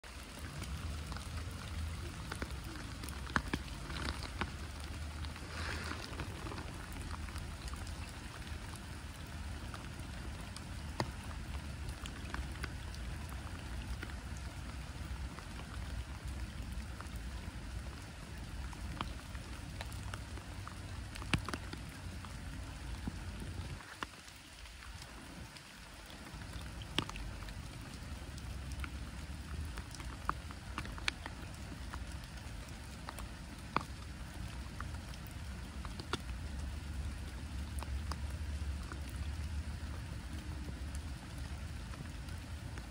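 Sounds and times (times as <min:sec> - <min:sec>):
light rain on pond: 0:00.0 - 0:42.9.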